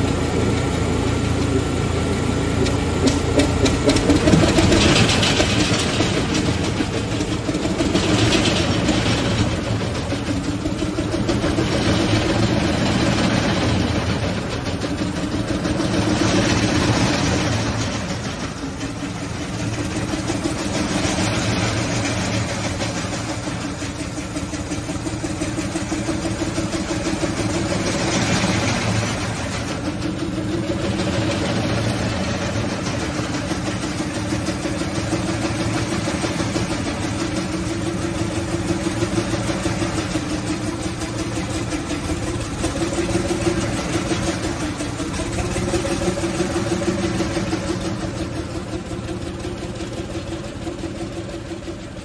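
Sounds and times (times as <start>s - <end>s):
marine engine running: 0.0s - 52.0s.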